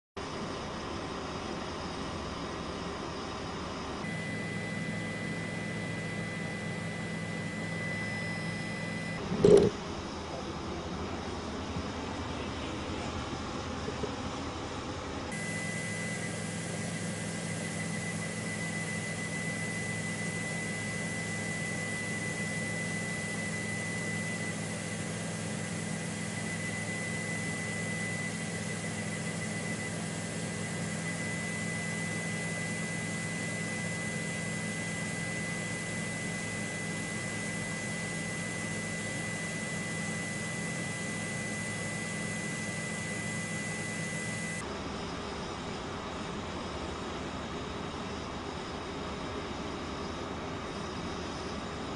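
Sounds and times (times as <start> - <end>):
helicopter turbine engine: 0.2 - 51.9.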